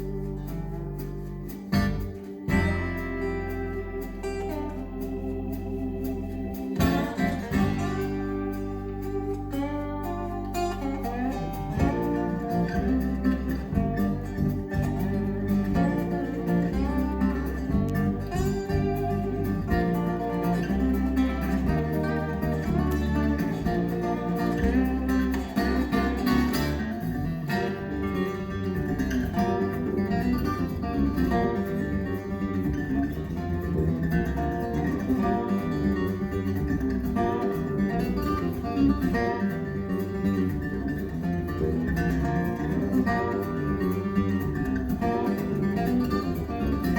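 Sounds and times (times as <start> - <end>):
acoustic guitar music: 0.0 - 46.9.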